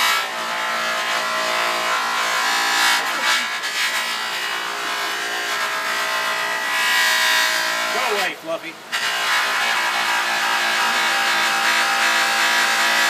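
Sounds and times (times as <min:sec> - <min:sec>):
metal rubbing on buffing wheel: 0:00.0 - 0:13.0
polishing motor hum: 0:00.0 - 0:13.0.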